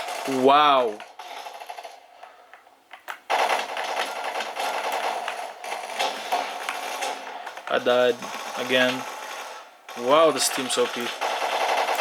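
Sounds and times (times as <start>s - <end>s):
rapid rattle of game action: 0.0s - 12.0s.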